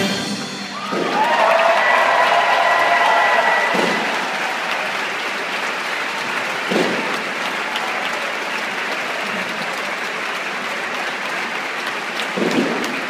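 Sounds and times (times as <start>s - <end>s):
large audience applauding: 0.7s - 13.0s.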